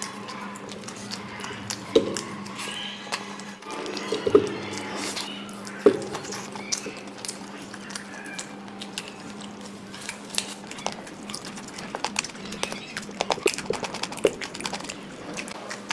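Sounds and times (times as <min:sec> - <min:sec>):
chewing with wet mouth smacks: 0:00.0 - 0:15.9.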